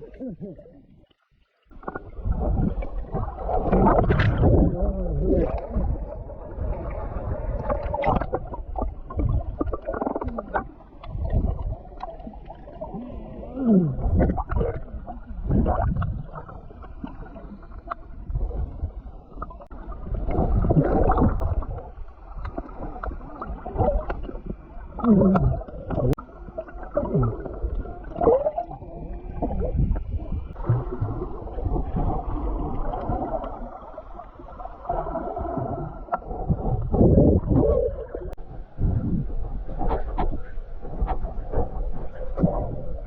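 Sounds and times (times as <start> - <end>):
underwater water sloshing: 0.0 - 43.0.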